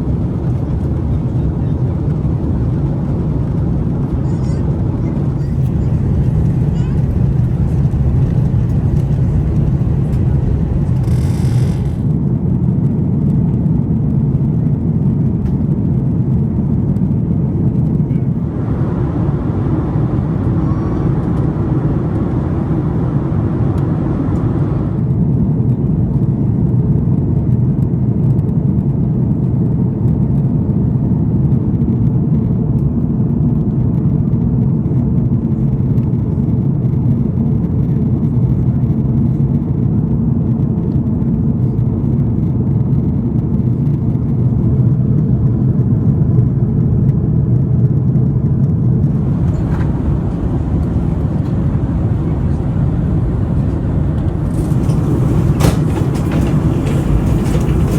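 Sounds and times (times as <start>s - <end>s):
airliner cabin drone: 0.0s - 57.9s.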